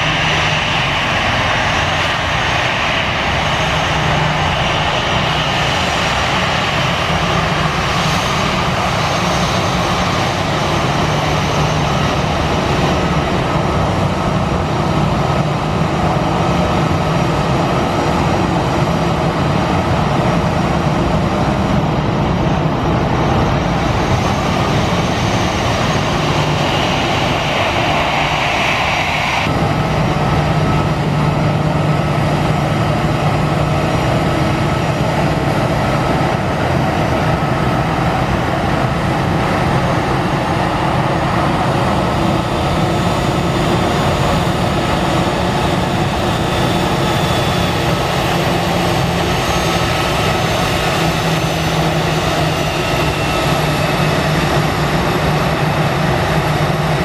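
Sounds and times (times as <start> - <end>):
jet engines taxiing with whine: 0.0 - 57.0.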